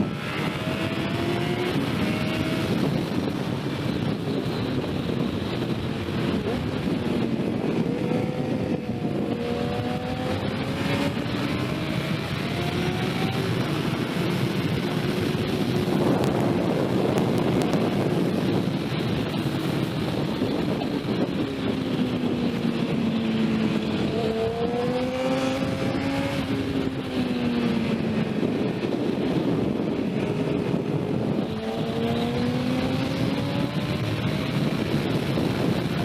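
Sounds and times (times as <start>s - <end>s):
motorcycle engine running: 0.0s - 36.0s
wind noise on microphone: 0.0s - 36.0s.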